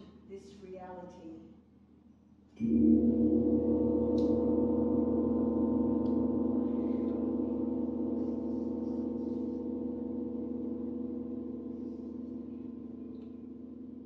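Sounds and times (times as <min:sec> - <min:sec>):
gong struck with mallet: 0:02.6 - 0:14.0.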